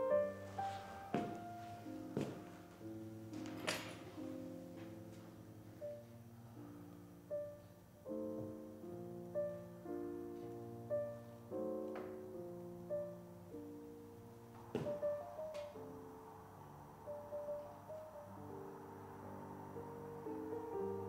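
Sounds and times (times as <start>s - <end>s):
soft slow piano music: 0.0s - 21.0s.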